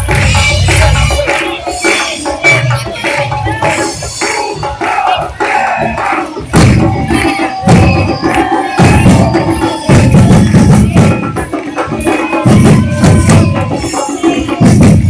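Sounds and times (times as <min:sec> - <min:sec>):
snare and high drum strokes: 0:00.0 - 0:15.0.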